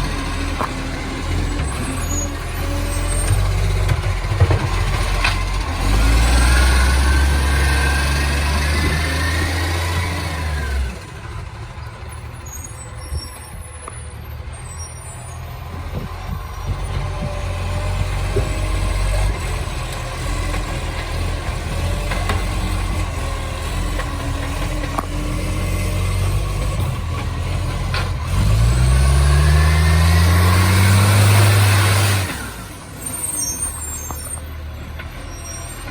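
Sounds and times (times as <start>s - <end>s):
truck engine rumbling: 0.0s - 35.9s.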